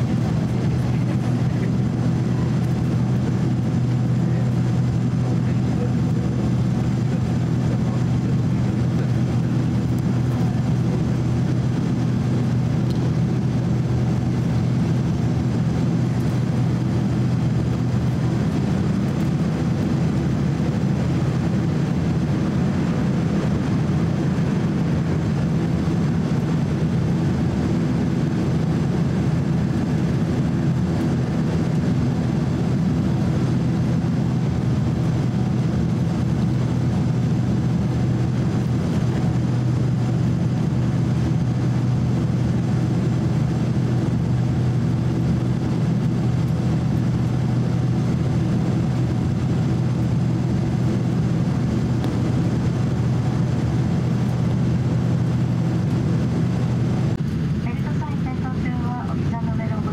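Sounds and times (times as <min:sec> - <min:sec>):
jet engine cabin drone: 0:00.0 - 0:59.9
steady low hum: 0:00.0 - 0:59.9.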